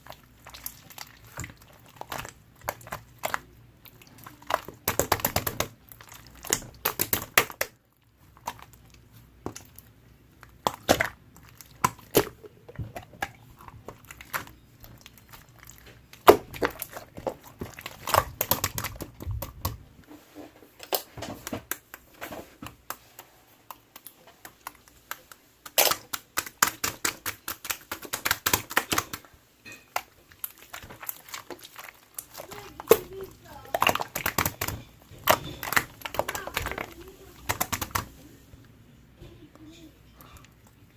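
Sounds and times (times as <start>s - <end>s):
slime squished by hand: 0.0s - 19.8s, 20.8s - 38.4s
wet clicking and crackling pops: 0.0s - 19.8s, 20.8s - 38.8s.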